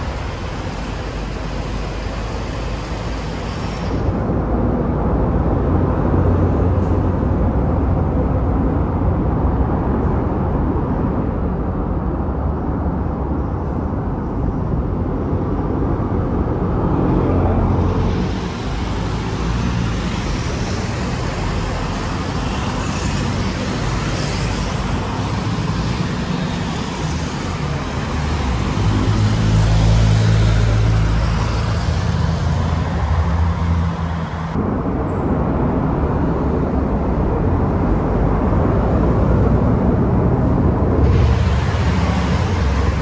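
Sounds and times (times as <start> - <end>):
buses and traffic passing: 0.0 - 43.0
dull traffic hum: 0.0 - 43.0.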